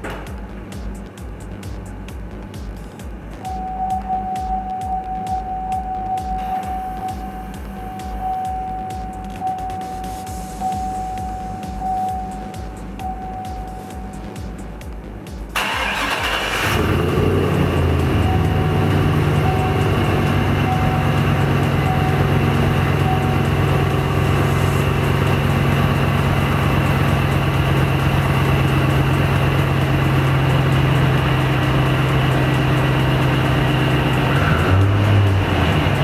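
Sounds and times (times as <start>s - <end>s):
supercharged engine running: 0.4s - 36.0s.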